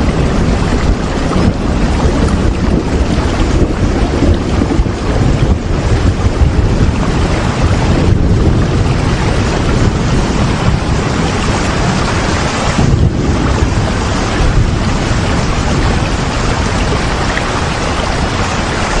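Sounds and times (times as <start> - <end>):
deep low rumble: 0.0 - 19.0
heavy rain hissing: 0.0 - 19.0.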